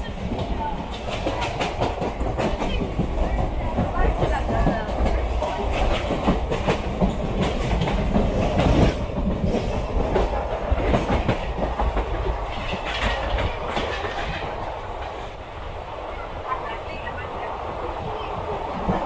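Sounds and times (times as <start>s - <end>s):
train wheels clattering over joints: 0.0s - 15.4s
train low rumble: 0.0s - 19.0s.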